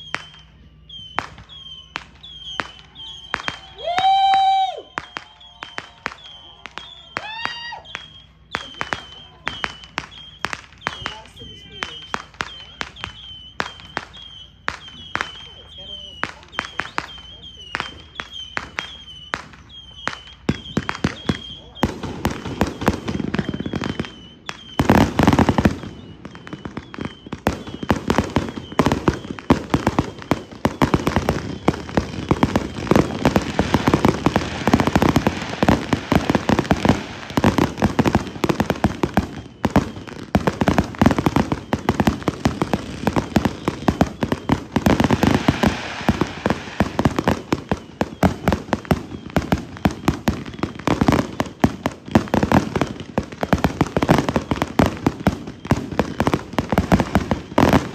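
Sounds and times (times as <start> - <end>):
fireworks popping and crackling: 0.0 - 57.9.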